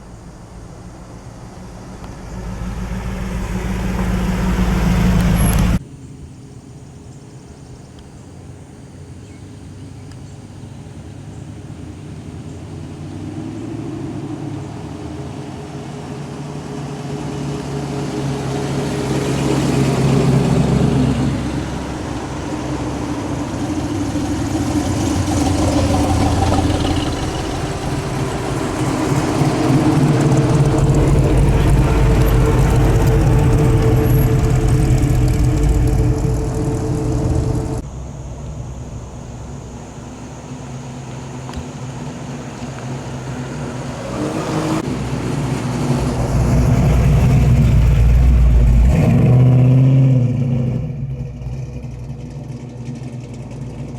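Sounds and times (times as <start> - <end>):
car engine rumbling: 0.0 - 53.9.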